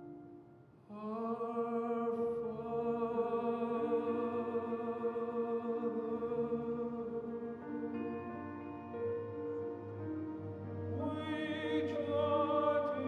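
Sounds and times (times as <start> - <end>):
sustained musical accompaniment: 0.0 - 13.0.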